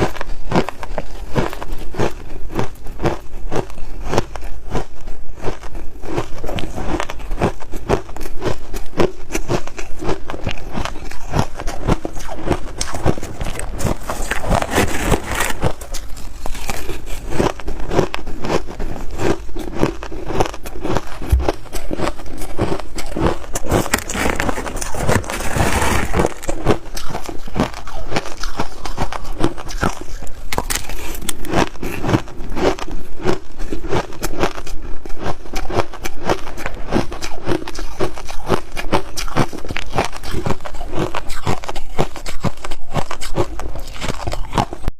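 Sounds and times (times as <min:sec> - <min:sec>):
chewing frozen snow and ice: 0:00.0 - 0:44.9.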